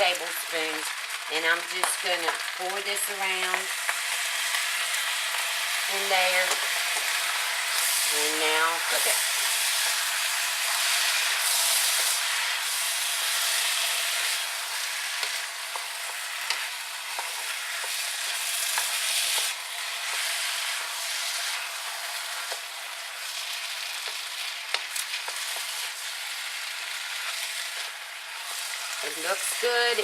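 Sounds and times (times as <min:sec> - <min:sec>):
food sizzling in a wok: 0:00.0 - 0:30.0
utensil scraping against wok: 0:03.0 - 0:30.0.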